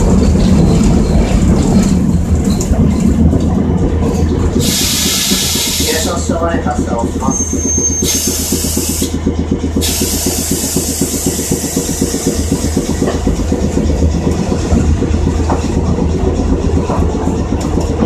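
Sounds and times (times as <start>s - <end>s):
streetcar motor and wheel hum: 0.0s - 18.0s.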